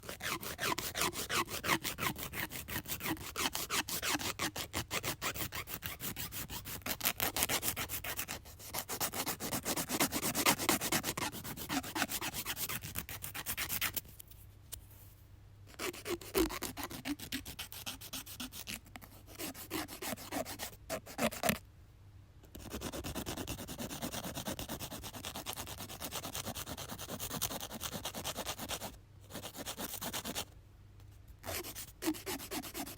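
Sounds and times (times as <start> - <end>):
nail file rasping: 0.0 - 14.0, 15.8 - 21.6, 22.6 - 30.4, 31.4 - 32.9.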